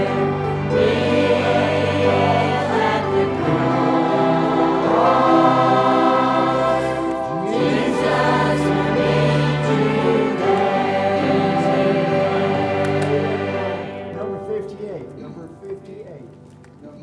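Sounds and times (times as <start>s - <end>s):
choir singing a hymn: 0.0s - 14.6s
musical accompaniment: 0.0s - 17.0s.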